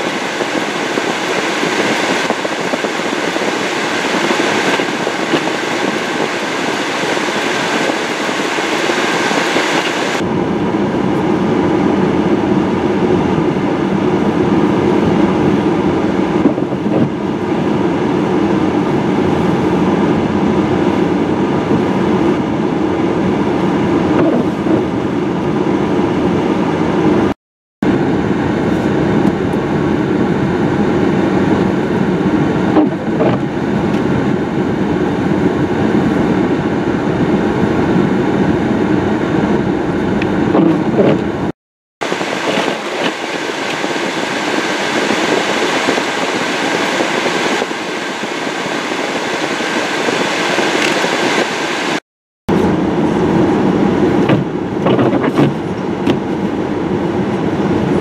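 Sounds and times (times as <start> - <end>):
strong wind on microphone: 0.0 - 58.0.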